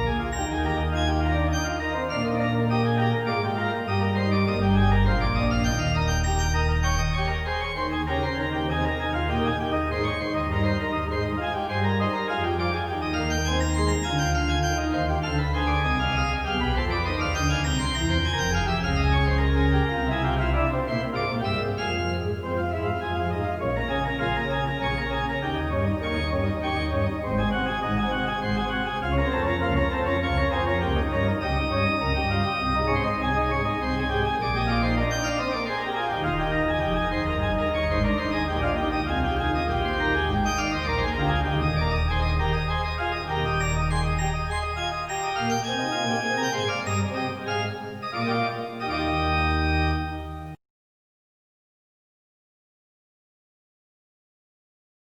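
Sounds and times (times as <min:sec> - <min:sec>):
organ chords: 0:00.0 - 0:50.6.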